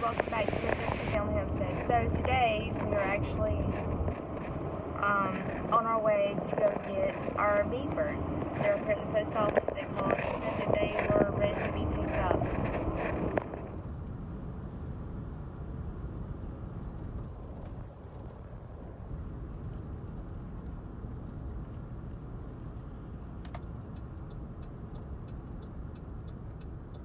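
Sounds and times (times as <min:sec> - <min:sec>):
car road noise rumble: 0:00.0 - 0:27.0.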